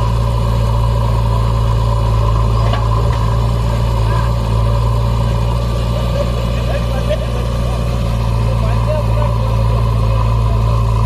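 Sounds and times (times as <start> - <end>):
diesel engines droning: 0.0 - 11.0.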